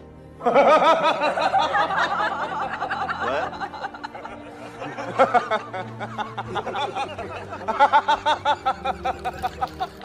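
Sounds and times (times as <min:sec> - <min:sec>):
person laughing: 0:00.5 - 0:10.0.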